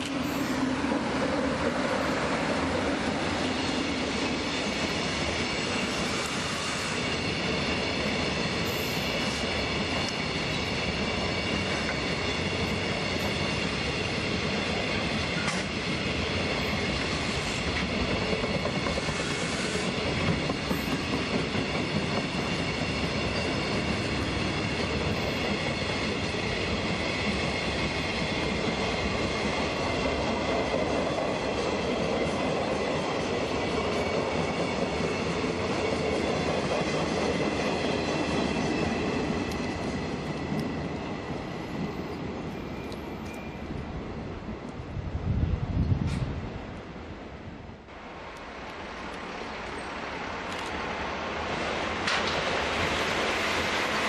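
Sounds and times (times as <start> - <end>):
train wheels rumbling and clattering: 0.0 - 46.9, 47.8 - 54.0.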